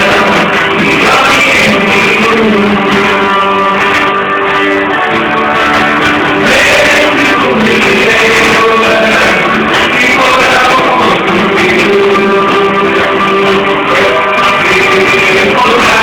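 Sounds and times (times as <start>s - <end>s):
guitar-led band music: 0.0s - 16.0s.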